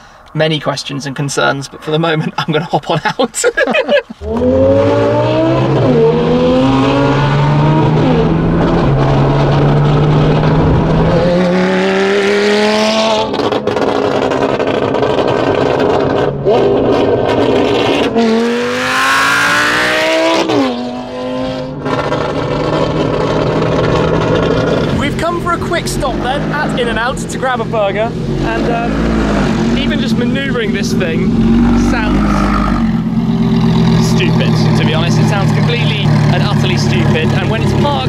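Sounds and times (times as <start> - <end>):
sports car engine accelerating: 4.2 - 38.0.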